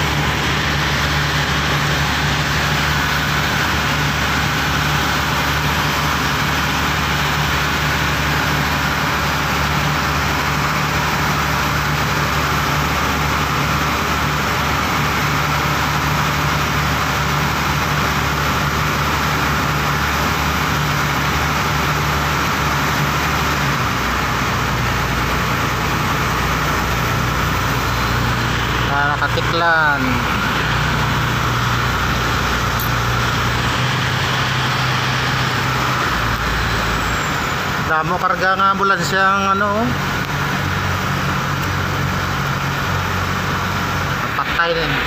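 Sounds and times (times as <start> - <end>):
boat engine droning: 0.0 - 45.0
water rushing: 0.0 - 45.0.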